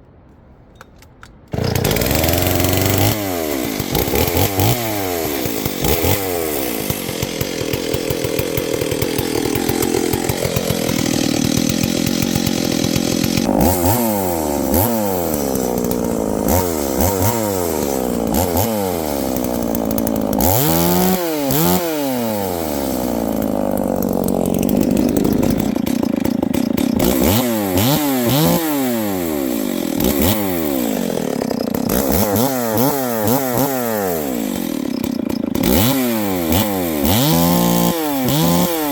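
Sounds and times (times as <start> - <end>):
chainsaw cutting wood: 1.5 - 38.9
chainsaw revving: 1.5 - 38.9.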